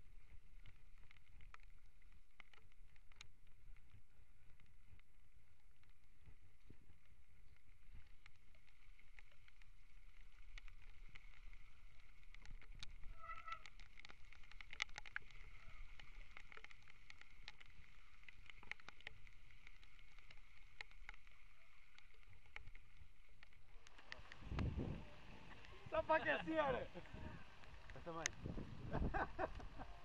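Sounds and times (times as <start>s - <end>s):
bike rumble and wind on camera: 0.0s - 30.0s.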